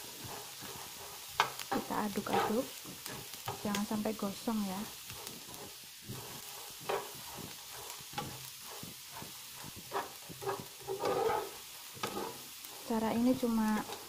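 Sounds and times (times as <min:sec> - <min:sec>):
beans sizzling: 0:00.0 - 0:14.0
spatula scraping frying pan: 0:00.0 - 0:14.0.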